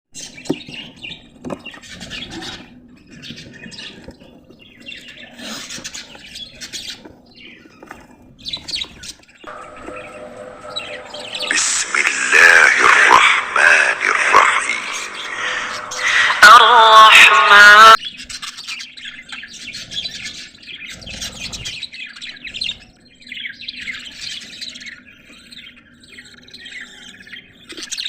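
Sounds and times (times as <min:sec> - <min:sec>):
budgerigars chirping and chattering: 0:00.2 - 0:17.0, 0:18.0 - 0:28.0.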